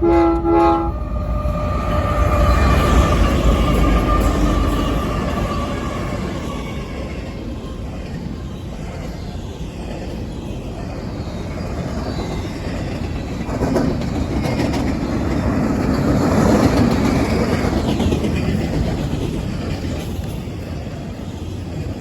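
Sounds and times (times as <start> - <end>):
train wheels clattering on rails: 0.3 - 22.0.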